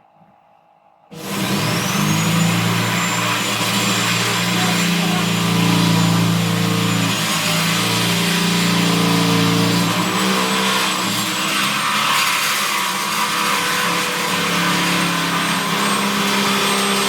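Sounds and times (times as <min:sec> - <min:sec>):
electric drill boring sheet metal: 0:01.1 - 0:17.0.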